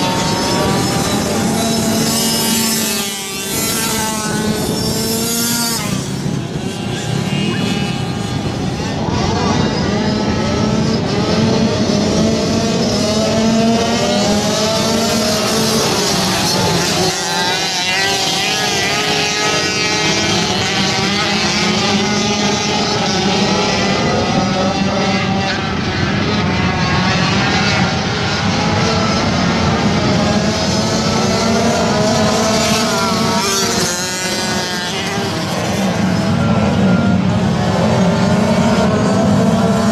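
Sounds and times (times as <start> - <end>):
racing motorcycle engines: 0.0 - 39.9.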